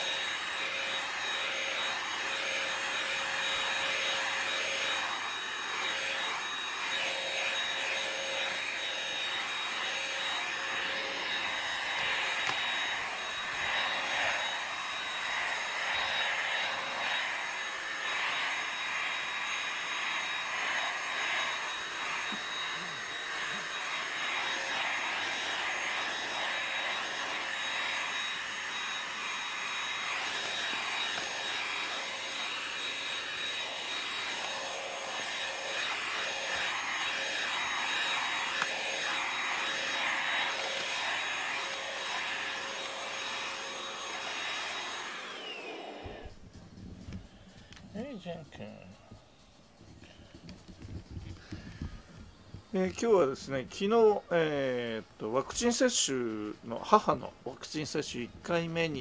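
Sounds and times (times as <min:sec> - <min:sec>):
vacuum cleaner running: 0:00.0 - 0:54.9, 0:55.6 - 0:59.0.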